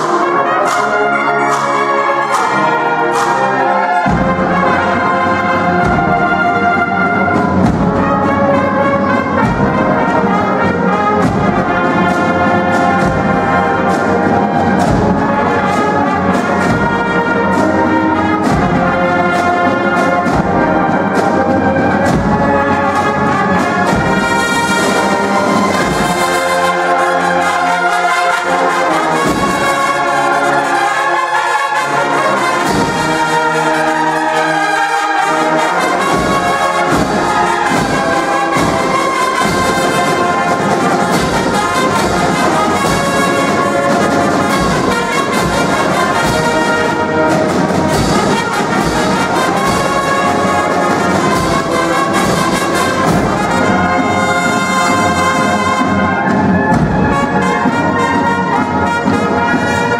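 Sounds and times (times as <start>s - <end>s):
brass band playing a march: 0.0s - 59.9s.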